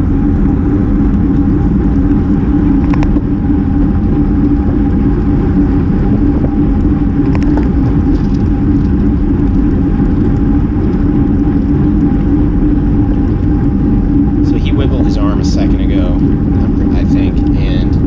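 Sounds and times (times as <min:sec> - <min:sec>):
steady hum: 0:00.0 - 0:18.0
wind rush on microphone: 0:00.0 - 0:18.0.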